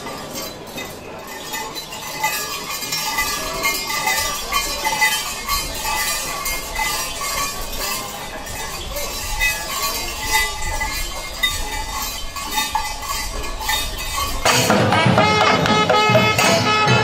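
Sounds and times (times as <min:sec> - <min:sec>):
bells and swords jingling: 0:00.0 - 0:17.0.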